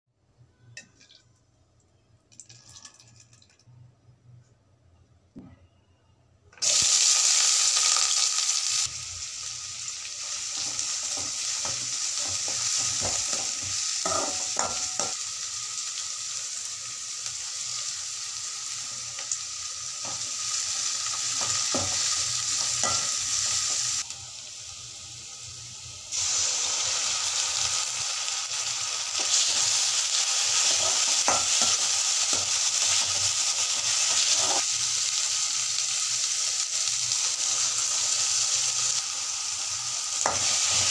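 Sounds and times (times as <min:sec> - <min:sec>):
onions sizzling in hot oil: 0:06.6 - 0:40.9.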